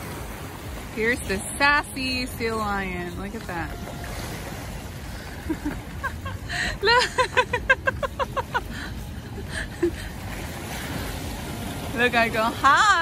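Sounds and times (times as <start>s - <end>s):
surf washing over rocks: 0.0s - 13.0s.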